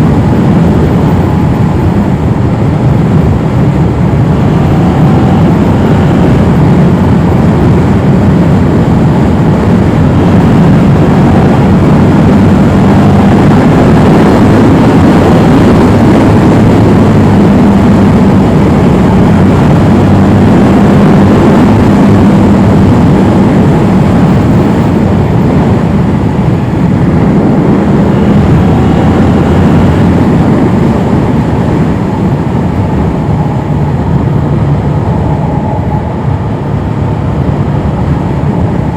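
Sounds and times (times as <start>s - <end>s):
motorcycle engine running: 0.0s - 38.9s
riding wind noise: 0.0s - 38.9s.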